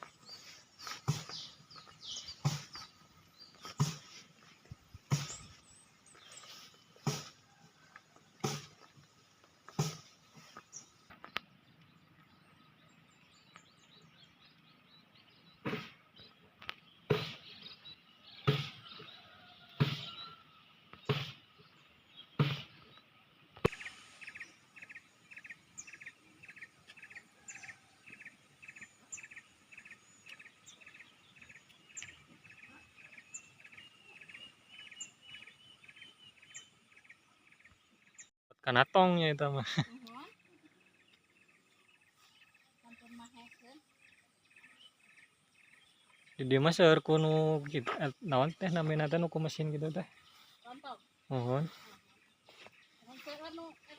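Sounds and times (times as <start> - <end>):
bird chirping: 0.0 - 53.9.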